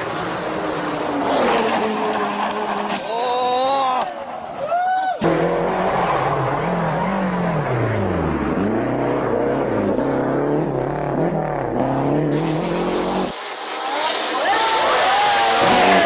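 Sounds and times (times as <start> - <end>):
rally car engine revving: 0.0 - 4.5, 5.2 - 16.0
tyre and road noise: 0.0 - 16.0.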